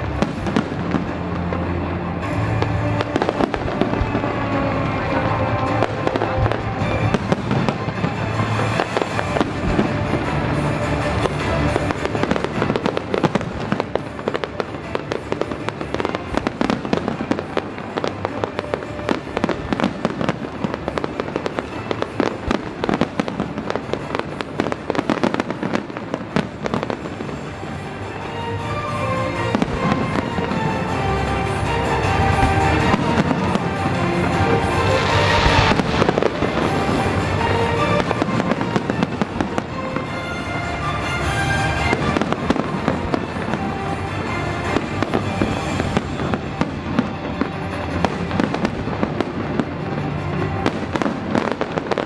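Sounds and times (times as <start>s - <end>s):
firework crackling: 0.0s - 52.0s
music playing: 0.0s - 52.0s.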